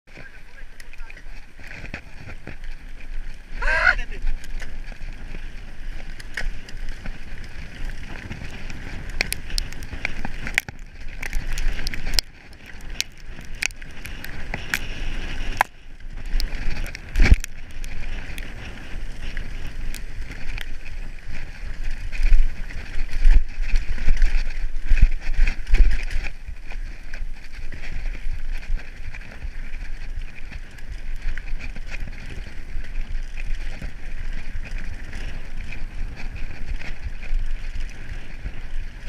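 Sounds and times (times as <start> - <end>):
bike clattering and rattling: 0.1 - 3.6, 4.2 - 39.0
tyres on dirt: 0.1 - 39.0.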